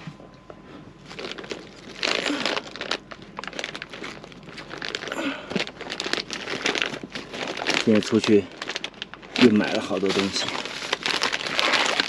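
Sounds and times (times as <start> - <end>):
plastic packaging crinkling: 1.0 - 12.0.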